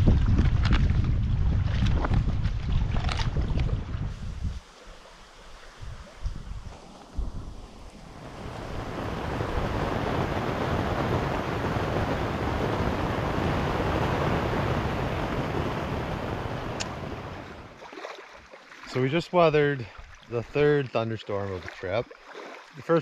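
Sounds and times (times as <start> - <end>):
waves on open water: 0.0 - 23.0
wind: 0.0 - 23.0.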